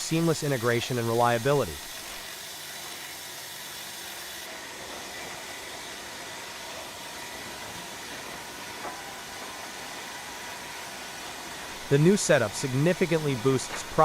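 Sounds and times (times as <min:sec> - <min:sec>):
sawmill machinery hissing: 0:00.0 - 0:14.0.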